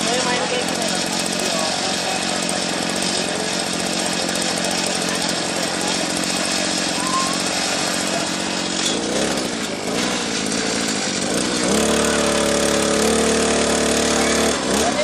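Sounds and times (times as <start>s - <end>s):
small petrol tiller engine: 0.0s - 15.0s.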